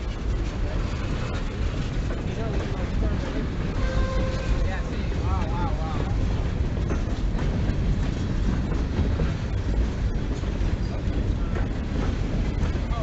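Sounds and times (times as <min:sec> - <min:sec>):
freight train rumbling past: 0:00.0 - 0:13.0
wheels clacking over rails: 0:00.0 - 0:13.0.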